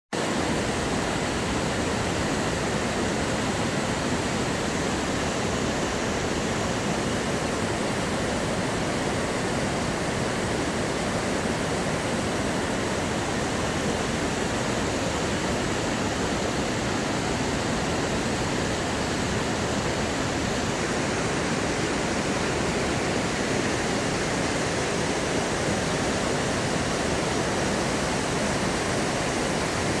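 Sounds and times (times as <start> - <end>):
water rushing: 0.2 - 30.0.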